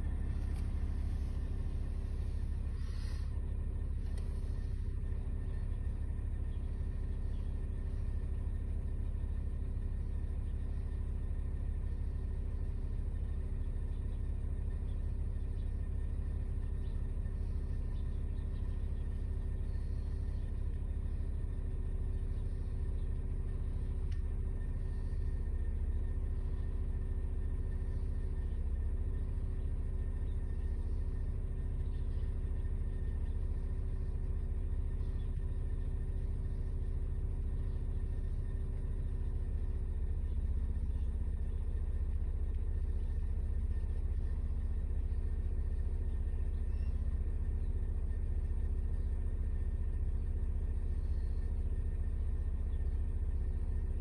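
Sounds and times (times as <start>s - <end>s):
car idling: 0.0s - 54.0s
faint steady hums: 0.0s - 54.0s.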